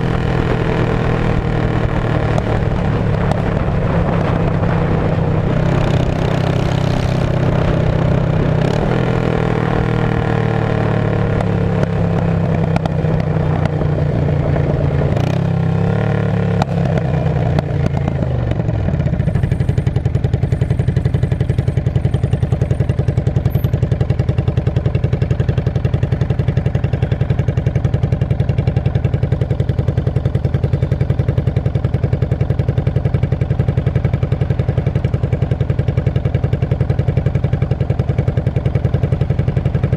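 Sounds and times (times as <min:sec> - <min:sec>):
loud motorcycle engine idling: 0:00.0 - 0:39.9.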